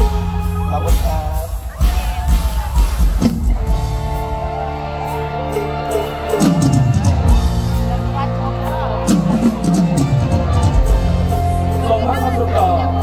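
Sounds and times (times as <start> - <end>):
live band music with beat: 0.0 - 13.0.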